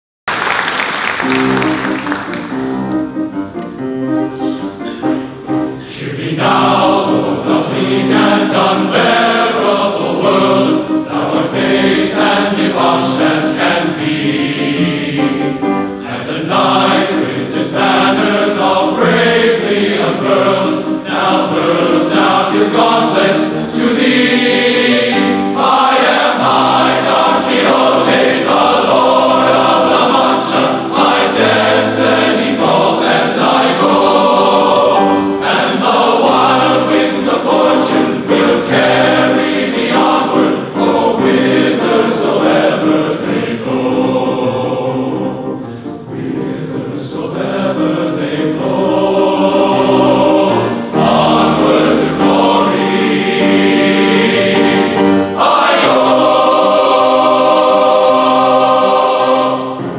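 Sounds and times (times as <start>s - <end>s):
grand piano accompaniment: 0.3s - 59.9s
men's chorus singing: 5.8s - 59.8s.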